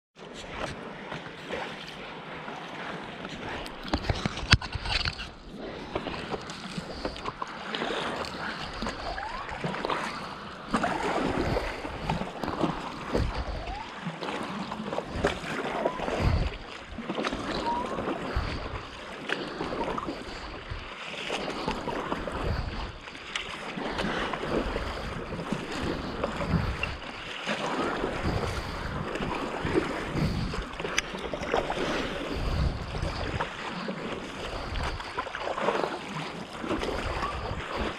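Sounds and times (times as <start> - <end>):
water splashing against paddleboard: 0.2 - 37.9
wind rumbling on microphone: 3.2 - 37.9.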